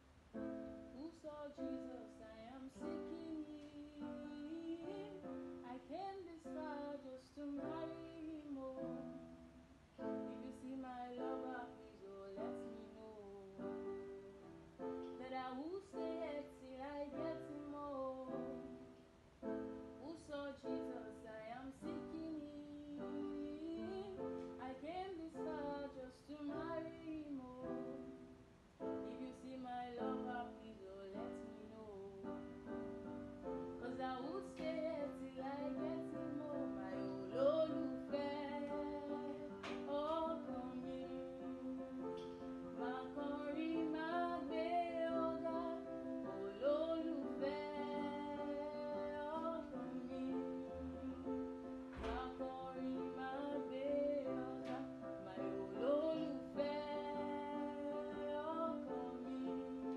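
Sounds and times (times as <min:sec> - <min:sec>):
sustained keyboard chords: 0:00.0 - 0:59.9
woman singing a love song: 0:00.4 - 0:09.4, 0:10.0 - 0:14.2, 0:14.8 - 0:59.9.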